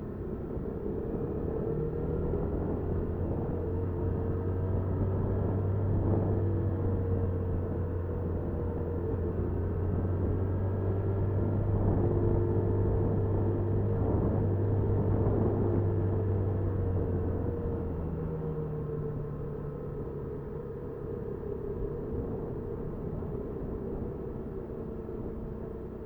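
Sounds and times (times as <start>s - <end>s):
road and wind rumble: 0.0s - 26.0s.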